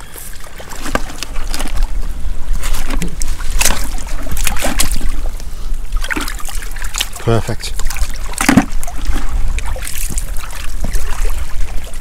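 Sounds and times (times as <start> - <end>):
seawater sloshing among rocks: 0.0 - 12.0
sharp water splashes: 0.0 - 12.0.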